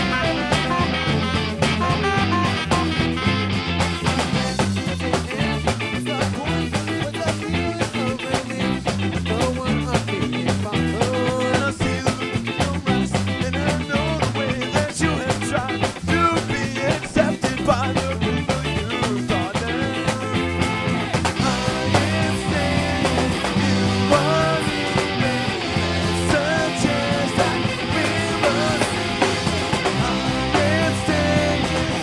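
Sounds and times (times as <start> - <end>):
bass line: 0.0 - 32.0
drum beat: 0.0 - 32.0
ska band playing: 0.0 - 32.0.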